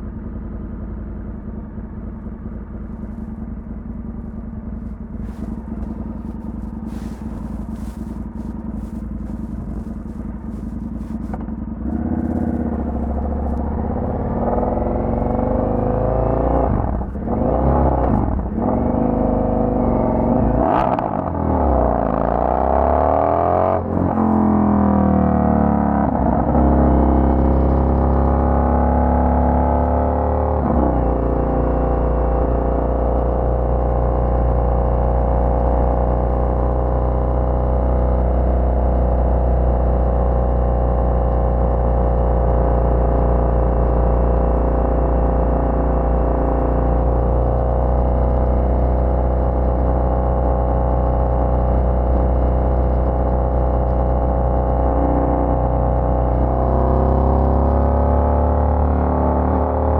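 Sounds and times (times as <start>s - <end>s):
motorcycle engine revving: 2.8s - 59.9s.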